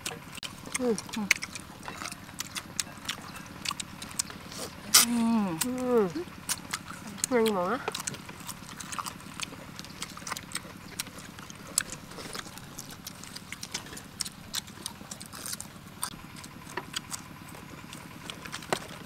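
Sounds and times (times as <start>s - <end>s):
faint low hum: 0.0s - 19.0s
people chewing and lip smacking: 0.0s - 19.0s.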